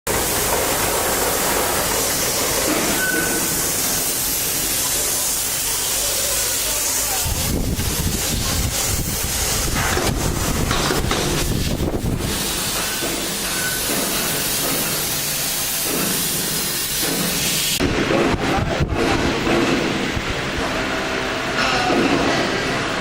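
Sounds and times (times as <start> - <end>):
workshop machinery hissing: 0.1 - 23.0.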